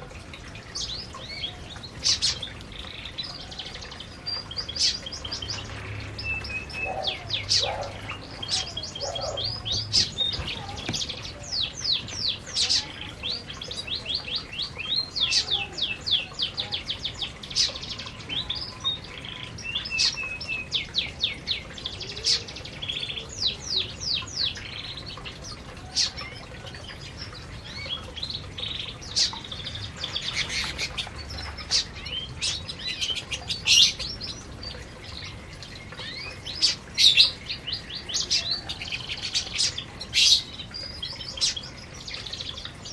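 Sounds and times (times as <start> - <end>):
canaries chirping and trilling: 0.4 - 42.9.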